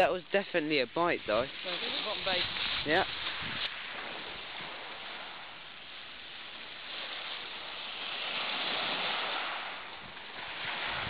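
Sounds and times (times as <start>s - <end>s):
waves washing on shingle beach: 0.0s - 11.0s.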